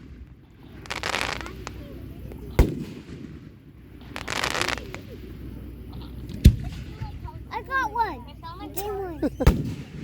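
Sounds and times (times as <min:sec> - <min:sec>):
fireworks crackling: 0:00.0 - 0:08.0.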